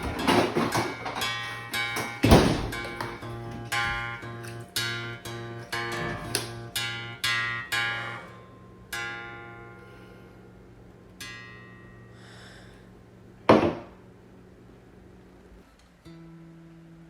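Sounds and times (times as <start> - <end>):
acoustic guitar chords: 0.0 - 14.5, 16.0 - 17.0.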